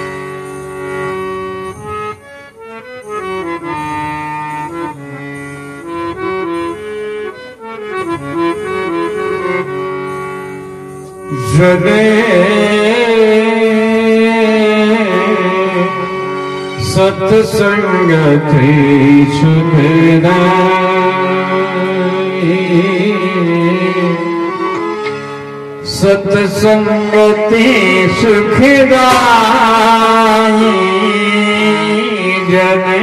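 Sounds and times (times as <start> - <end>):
harmonium melody: 0.0 - 33.0.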